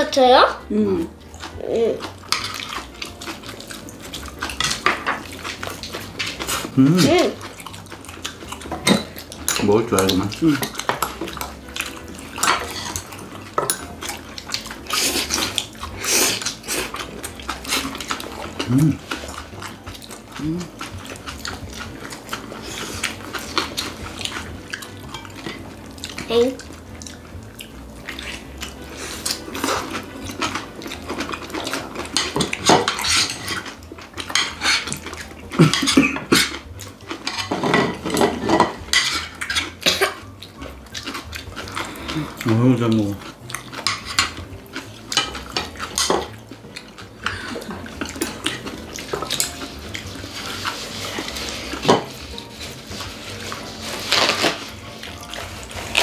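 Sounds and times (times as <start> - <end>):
chewing and slurping: 0.0 - 56.0.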